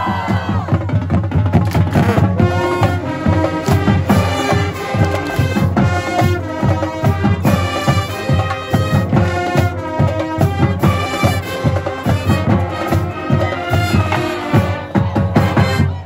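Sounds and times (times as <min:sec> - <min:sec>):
bass drum beat: 0:00.0 - 0:16.0
marching band playing: 0:00.0 - 0:16.0.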